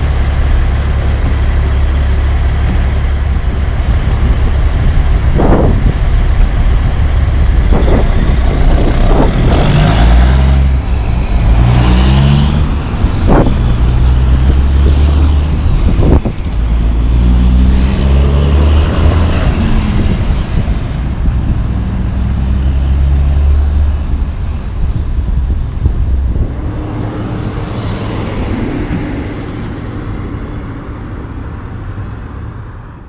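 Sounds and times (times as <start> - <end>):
heavy truck engine accelerating: 0.0 - 33.0
passing cars: 0.0 - 33.0.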